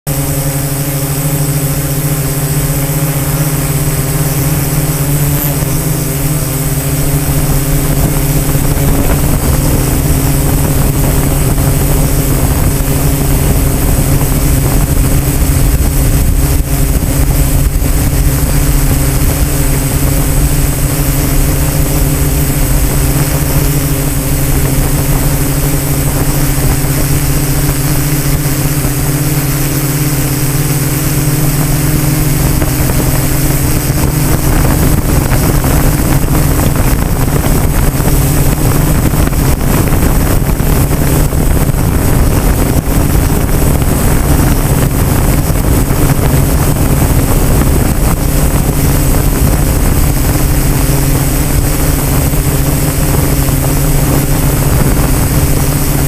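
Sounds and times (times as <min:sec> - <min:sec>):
air buffeting rumble: 0:00.1 - 0:56.0
drone motors humming: 0:00.1 - 0:56.0.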